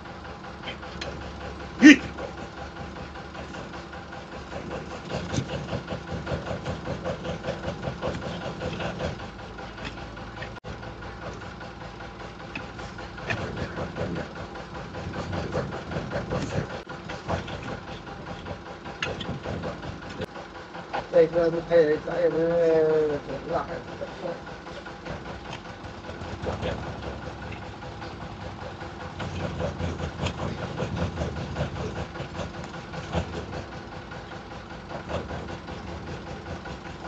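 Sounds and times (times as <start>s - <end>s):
engine-like hum: 0.0s - 37.0s.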